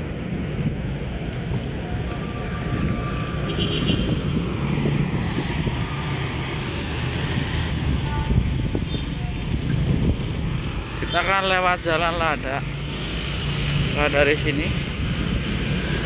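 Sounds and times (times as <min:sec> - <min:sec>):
wind rumbling on microphone: 0:00.0 - 0:11.1, 0:12.7 - 0:16.0
motorcycles and cars passing: 0:00.0 - 0:16.0.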